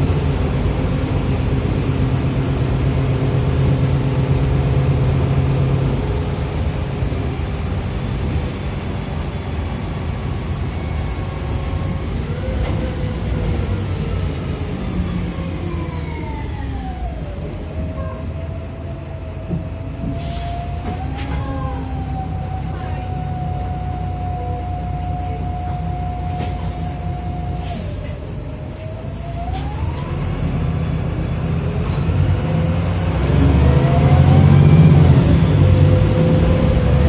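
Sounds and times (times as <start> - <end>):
bus drivetrain whine: 0.0 - 37.0
bus engine rumble: 0.0 - 37.0.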